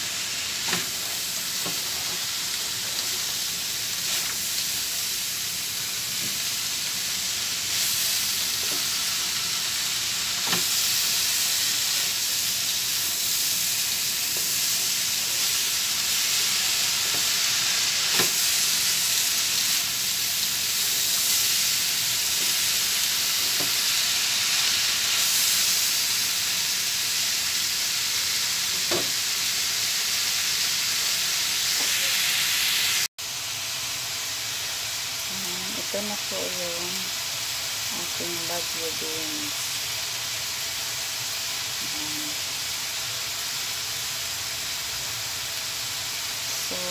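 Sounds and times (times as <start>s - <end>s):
green beans sizzling in wok: 0.0s - 46.9s.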